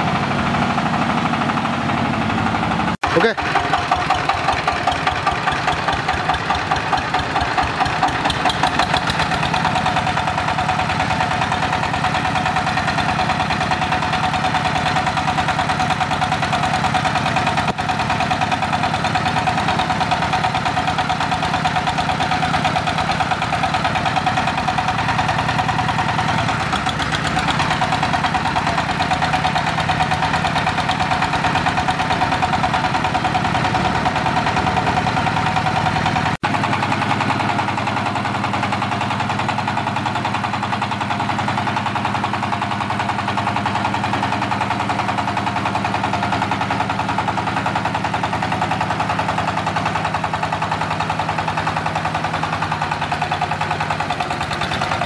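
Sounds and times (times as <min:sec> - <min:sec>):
diesel engine knocking: 0:00.0 - 0:55.0.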